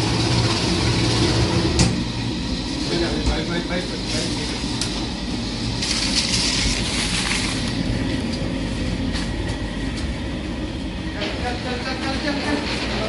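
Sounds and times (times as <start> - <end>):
concrete mixer rumbling: 0.0 - 13.0.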